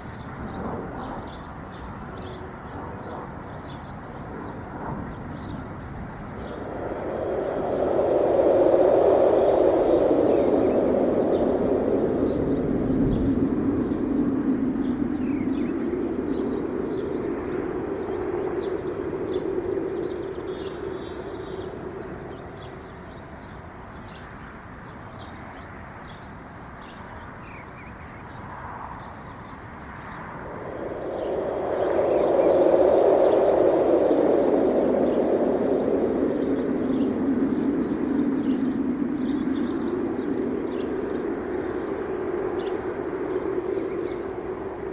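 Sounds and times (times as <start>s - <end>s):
small birds chirping faintly: 0.0s - 44.9s
wind gusting: 0.0s - 44.9s.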